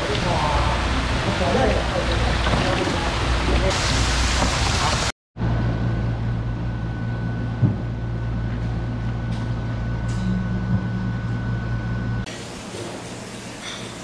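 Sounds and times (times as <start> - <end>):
machine hum with high whine: 0.0 - 13.8.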